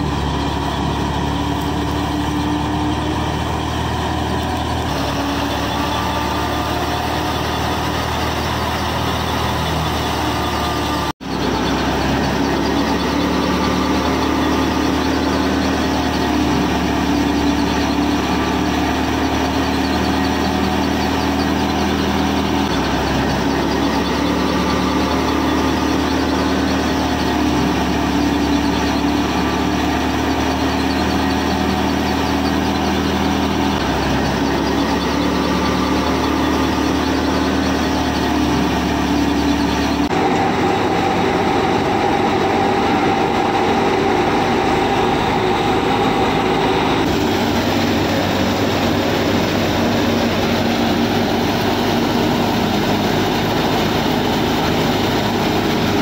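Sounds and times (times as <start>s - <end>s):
small machine motor humming: 0.0s - 56.0s.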